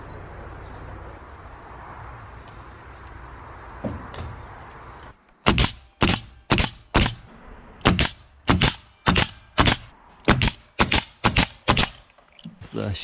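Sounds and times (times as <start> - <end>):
outdoor rush: 0.0 - 13.0.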